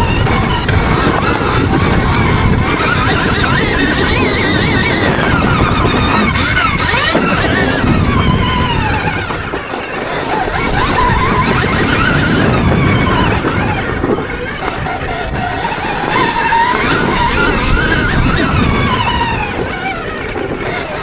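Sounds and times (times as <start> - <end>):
electric motorbike motor whining: 0.0 - 21.0.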